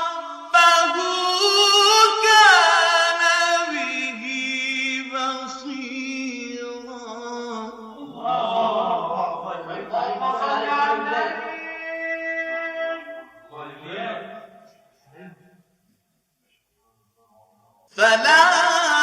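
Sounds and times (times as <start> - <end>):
man chanting recitation: 0.0 - 15.5, 17.2 - 19.0.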